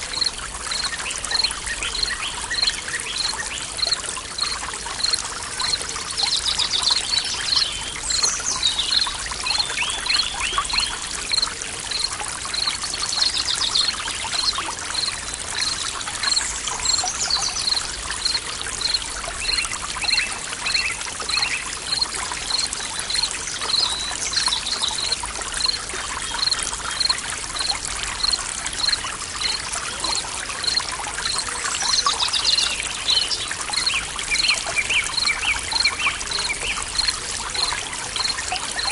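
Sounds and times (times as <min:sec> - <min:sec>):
forest stream trickling: 0:00.0 - 0:38.9.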